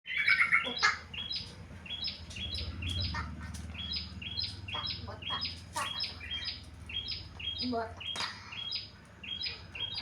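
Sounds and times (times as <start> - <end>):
bird chirping phrases: 0.1 - 10.0.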